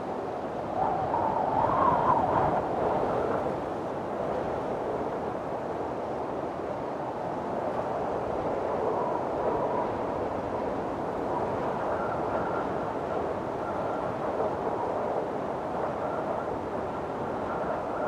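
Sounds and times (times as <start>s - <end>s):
whistling wind gust: 0.0s - 18.0s.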